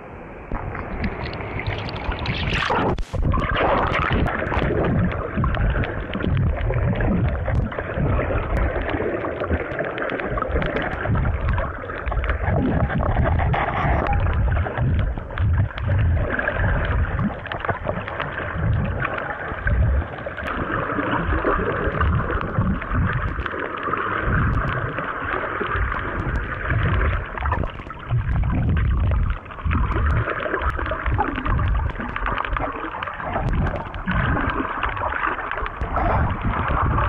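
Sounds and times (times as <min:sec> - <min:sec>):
muffled underwater rush and gurgle: 0:00.0 - 0:37.0
water splashing: 0:00.5 - 0:37.0.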